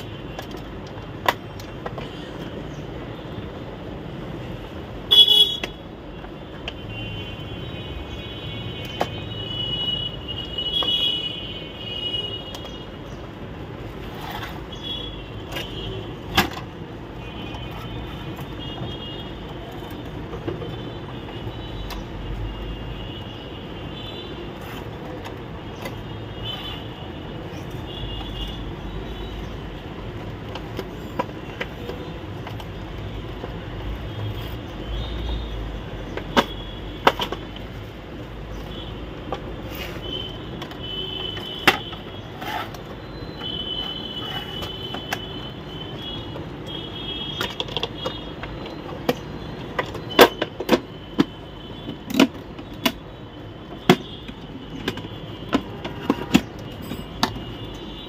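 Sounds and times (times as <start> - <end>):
plastic parts clicking and knocking: 0.0 - 3.0, 8.6 - 9.4, 12.4 - 58.0.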